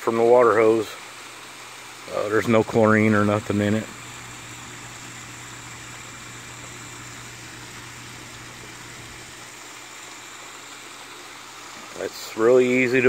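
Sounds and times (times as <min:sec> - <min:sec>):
fountain bubbler splashing: 0:00.0 - 0:13.0
low steady hum: 0:00.0 - 0:13.0.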